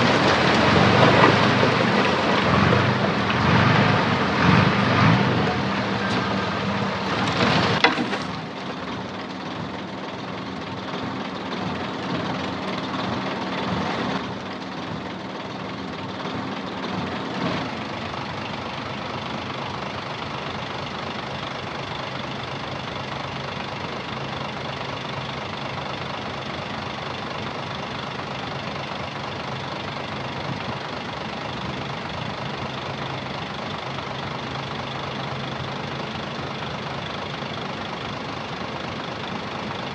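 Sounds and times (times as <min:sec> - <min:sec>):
heavy diesel engine: 0:00.0 - 0:39.9.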